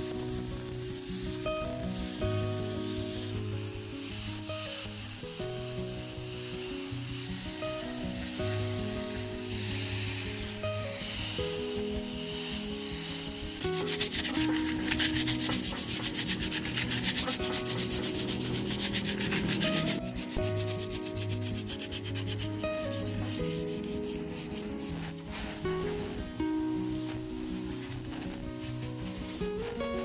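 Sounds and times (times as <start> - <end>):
hand sanding with sandpaper: 0.0 - 30.0.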